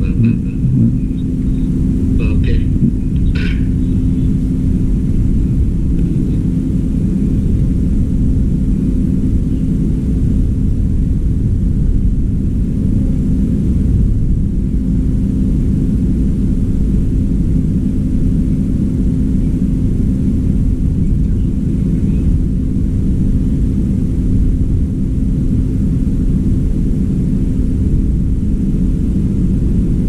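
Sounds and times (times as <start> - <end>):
constant low hum: 0.0 - 30.0
low rumble: 0.0 - 30.0.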